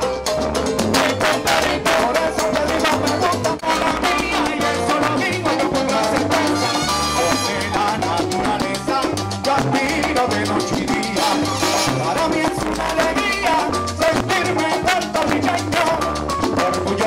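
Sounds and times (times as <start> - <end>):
congas: 0.0 - 17.0
live salsa band playing: 0.0 - 17.0.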